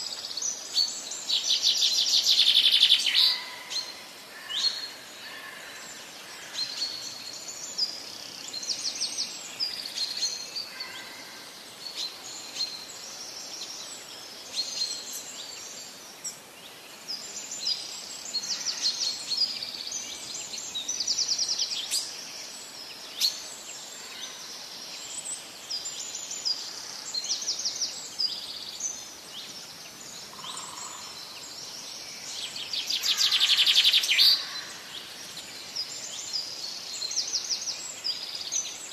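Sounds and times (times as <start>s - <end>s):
faint background hiss: 0.0s - 38.9s
songbirds chirping and trilling: 0.0s - 38.9s.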